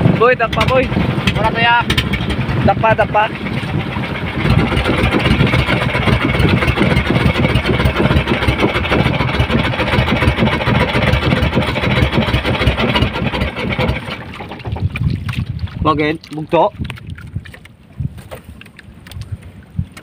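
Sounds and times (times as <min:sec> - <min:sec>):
loud boat engine running: 0:00.0 - 0:16.8.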